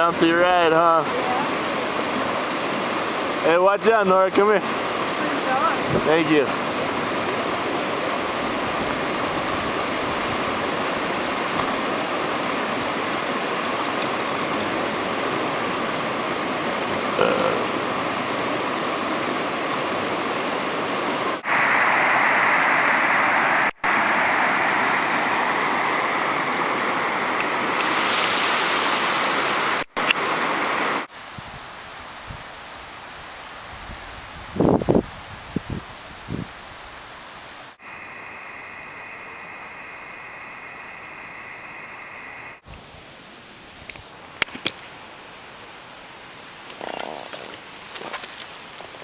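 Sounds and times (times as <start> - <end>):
creek water flowing over rocks: 0.0 - 33.8, 42.6 - 49.0.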